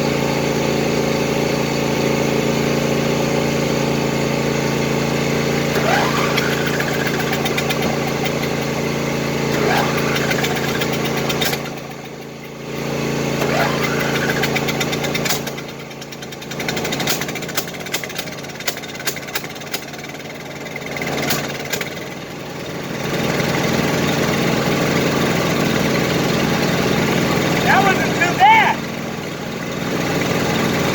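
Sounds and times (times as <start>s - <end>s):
lawn tractor engine running: 0.0s - 30.9s.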